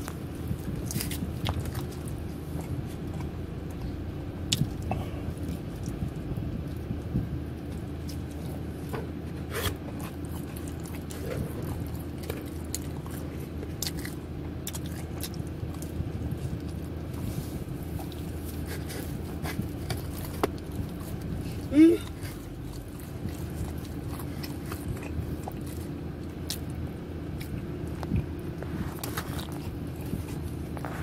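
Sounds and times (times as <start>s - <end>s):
person chewing pizza: 0.0s - 31.0s
steady low hum: 0.0s - 31.0s.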